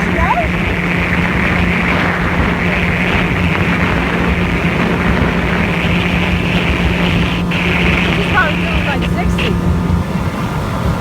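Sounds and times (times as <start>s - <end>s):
watercraft engine droning: 0.0s - 11.0s
wind and water rushing: 0.0s - 11.0s
wind buffeting microphone: 0.0s - 11.0s.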